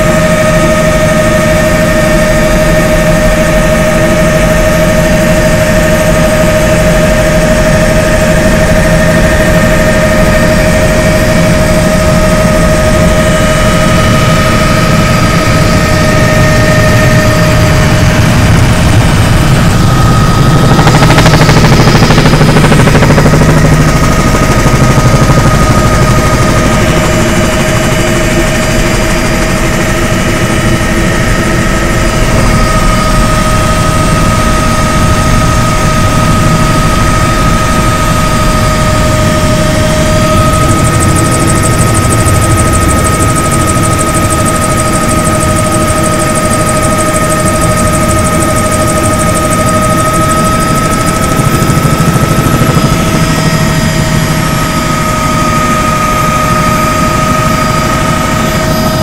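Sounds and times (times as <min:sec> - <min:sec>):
helicopter engine and rotor din: 0:00.0 - 0:59.0
high whine: 0:00.0 - 0:59.0.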